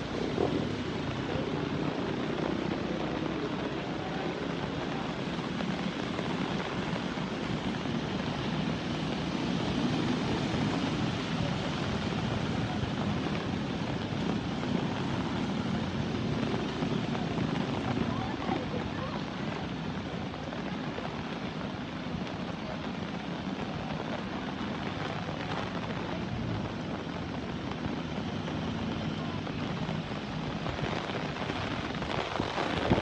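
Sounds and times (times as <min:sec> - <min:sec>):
river in flood rushing: 0:00.0 - 0:33.0.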